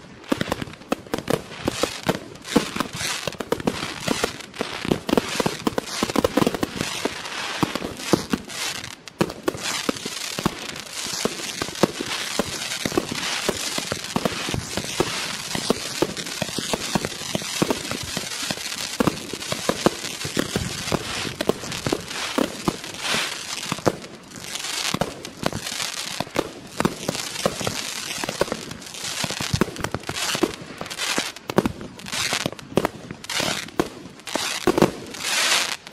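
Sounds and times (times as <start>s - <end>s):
firework cake firing bursts: 0.0s - 35.9s.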